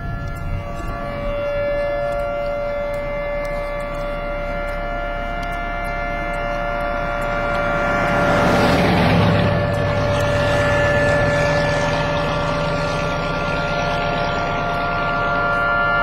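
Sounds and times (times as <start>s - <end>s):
rushing noise: 0.0s - 16.0s
tornado siren steady wail: 0.0s - 16.0s.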